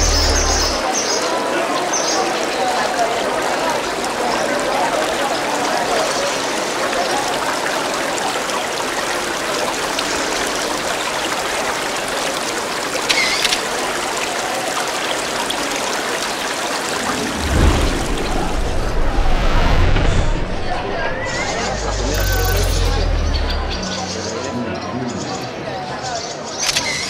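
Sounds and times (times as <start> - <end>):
fountain water splashing into basin: 0.0 - 24.5.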